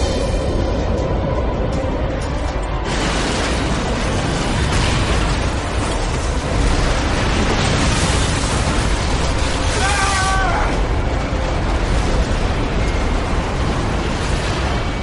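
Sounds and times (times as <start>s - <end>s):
train derailing and crashing: 0.0s - 15.0s.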